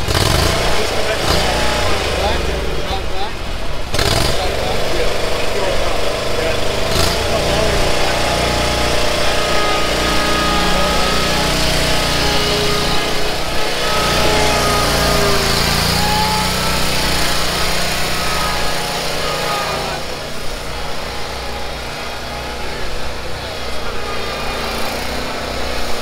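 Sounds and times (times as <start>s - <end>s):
lawn mower engine running: 0.0s - 26.0s
thin whine: 4.9s - 26.0s.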